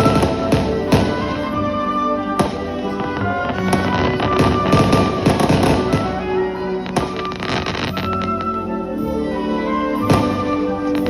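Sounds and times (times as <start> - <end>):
music with long held notes: 0.0 - 11.0.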